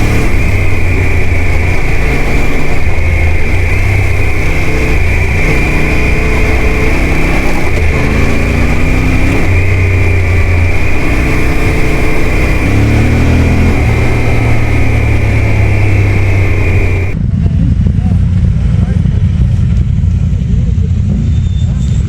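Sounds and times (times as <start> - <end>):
off-road motorcycle engine: 0.0 - 22.0.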